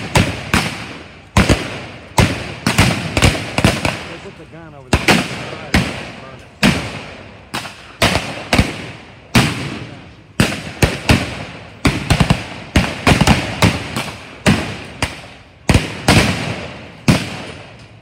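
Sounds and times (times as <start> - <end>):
gunshots with echo: 0.0 - 18.0.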